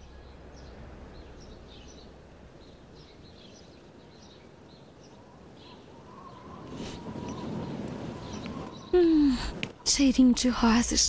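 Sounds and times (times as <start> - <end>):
birds chirping: 0.0 - 11.0
faint outdoor background noise: 0.0 - 11.0.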